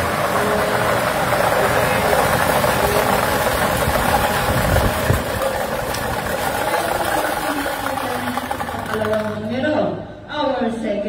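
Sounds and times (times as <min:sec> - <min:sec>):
balls tumbling: 0:00.0 - 0:09.8
lottery machine blower running: 0:00.0 - 0:10.2.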